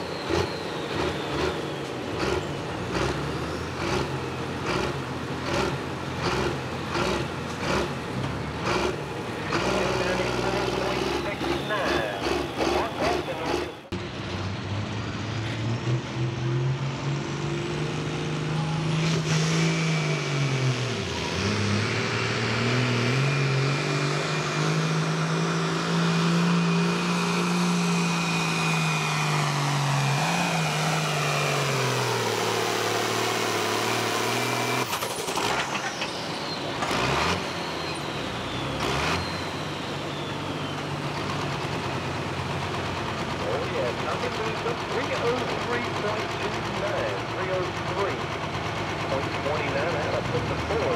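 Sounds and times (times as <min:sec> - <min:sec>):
high turbo whine: 0:00.0 - 0:48.4
tractor diesel engine lugging: 0:00.0 - 0:50.9.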